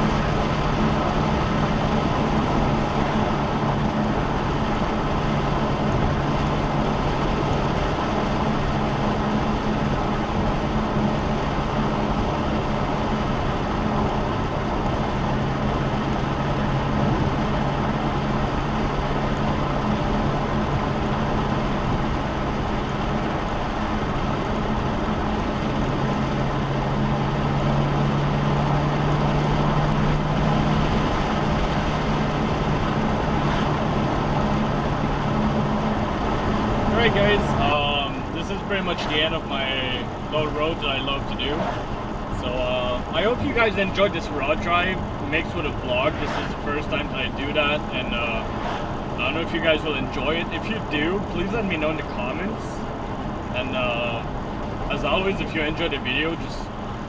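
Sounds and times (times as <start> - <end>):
car engine droning: 0.0 - 57.0
road and tyre noise: 0.0 - 57.0.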